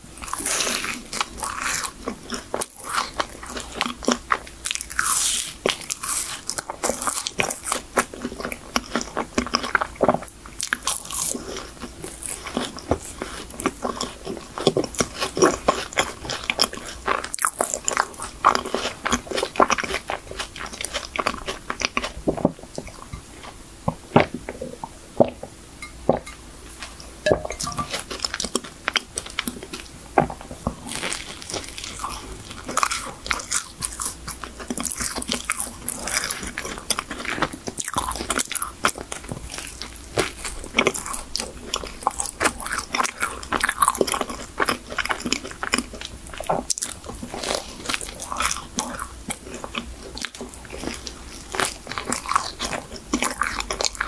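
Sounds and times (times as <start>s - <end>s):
mouth biting and chewing: 0.2s - 25.4s, 26.2s - 54.0s.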